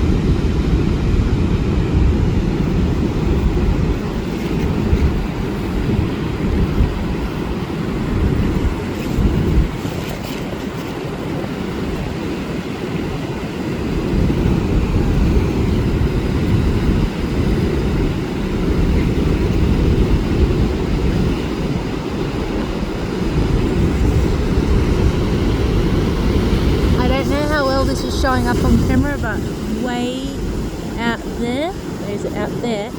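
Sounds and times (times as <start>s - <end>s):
heavy surf rumble: 0.0s - 32.9s
wind buffeting microphone: 0.0s - 32.9s.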